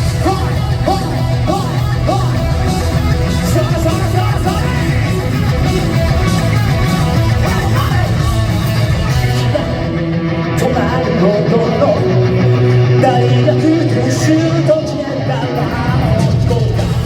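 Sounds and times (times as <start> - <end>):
electric guitar: 0.0 - 17.0
live rock band playing: 0.0 - 17.0.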